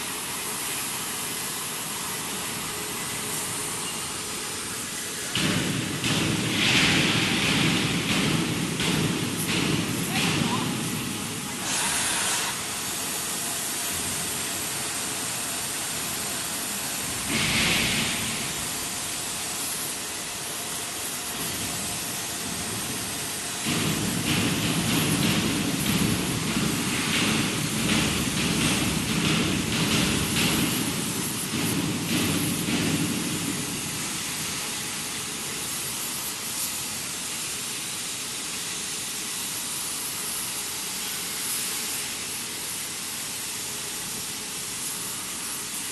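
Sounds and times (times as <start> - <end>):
heating torch hissing: 0.0 - 45.9.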